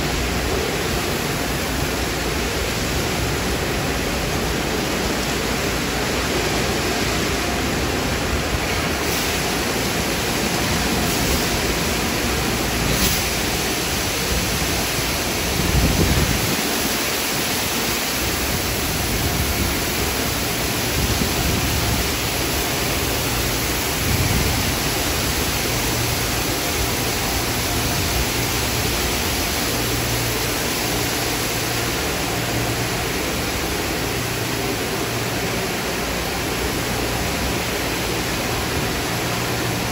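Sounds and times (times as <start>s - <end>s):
spraying water: 0.0s - 39.9s.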